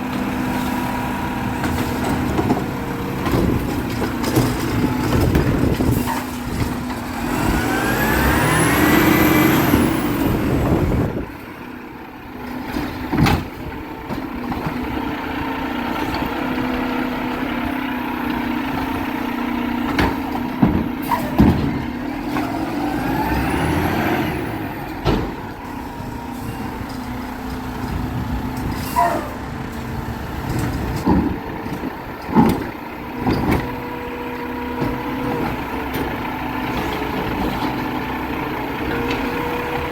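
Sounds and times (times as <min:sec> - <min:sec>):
garbage truck engine idling: 0:00.0 - 0:39.9
hydraulics whining: 0:00.0 - 0:39.9.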